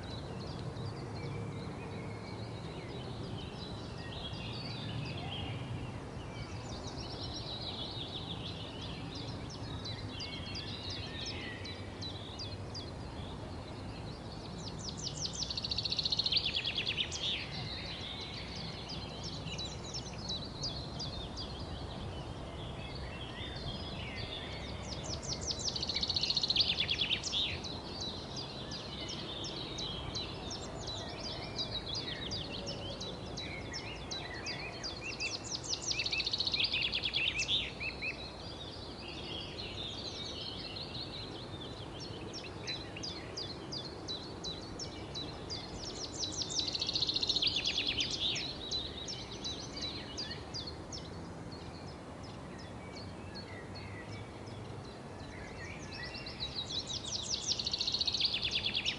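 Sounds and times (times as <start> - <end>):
low background noise: 0.0 - 58.9
songbirds trilling: 0.0 - 58.9.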